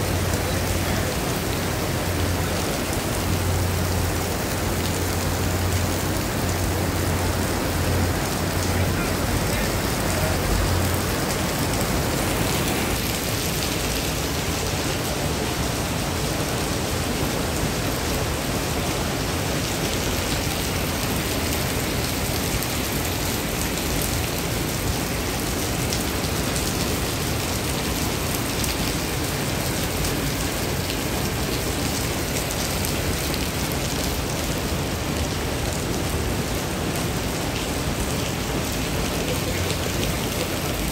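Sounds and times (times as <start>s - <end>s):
heavy rain on paving: 0.0s - 40.9s.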